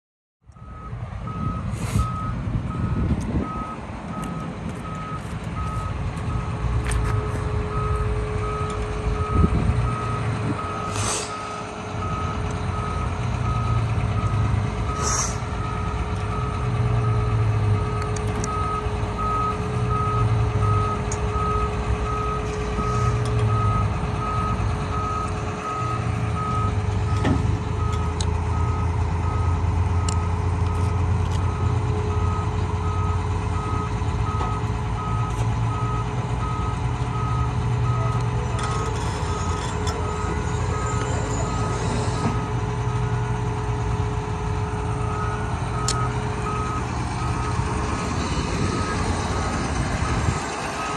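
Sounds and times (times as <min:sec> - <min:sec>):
diesel engine rumbling: 0:00.4 - 0:50.9
reversing alarm beeping: 0:00.5 - 0:43.4, 0:44.0 - 0:50.9.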